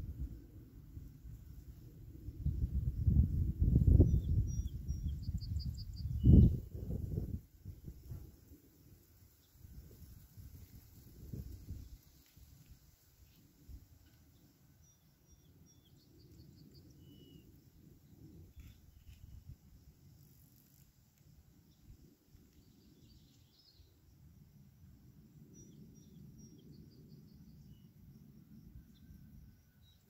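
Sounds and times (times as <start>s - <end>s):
faint wind rumbling: 0.0s - 30.0s.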